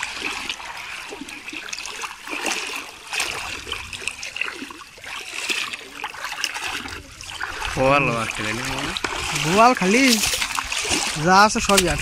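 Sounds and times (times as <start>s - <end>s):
water dripping from net: 0.0s - 11.9s
river water splashing: 0.0s - 12.0s.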